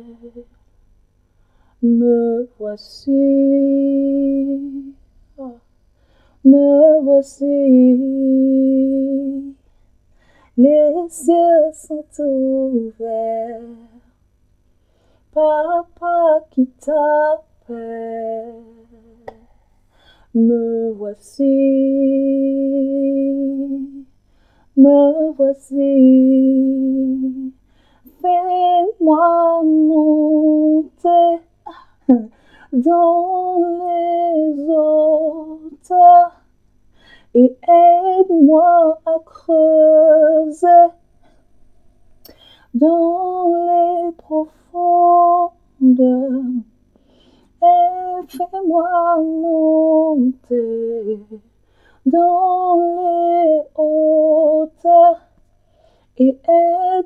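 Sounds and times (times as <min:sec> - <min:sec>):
woman singing without words: 0:00.0 - 0:00.6, 0:01.5 - 0:14.2, 0:15.0 - 0:41.4, 0:42.2 - 0:46.9, 0:47.5 - 0:57.0.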